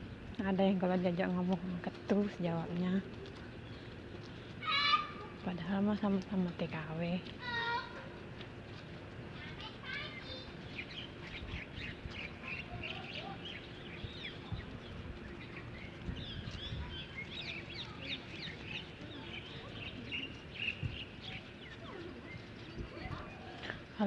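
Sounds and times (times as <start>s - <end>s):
birds chirping: 0.0s - 24.0s
low background noise: 0.0s - 24.0s.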